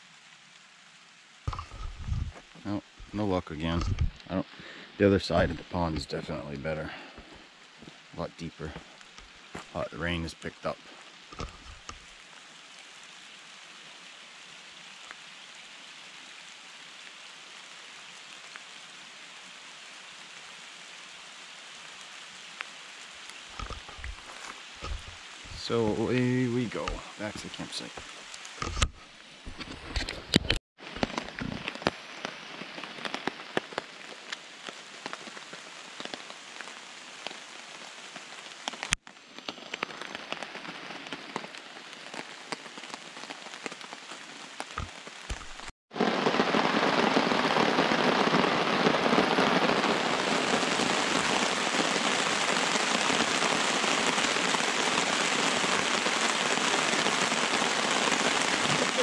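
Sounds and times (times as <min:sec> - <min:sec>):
rain on a tarp: 0:00.0 - 0:59.0.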